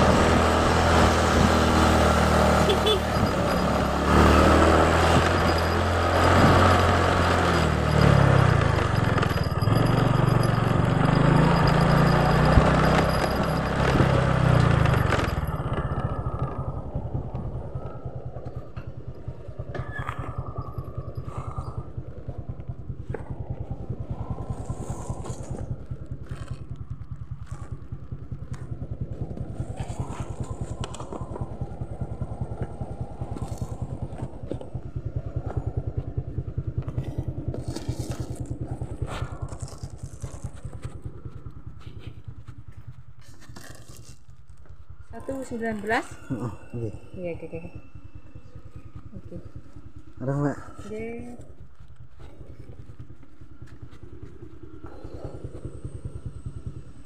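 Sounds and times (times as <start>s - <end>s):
motorcycle engine: 0.0s - 57.0s
wind noise: 0.0s - 57.0s.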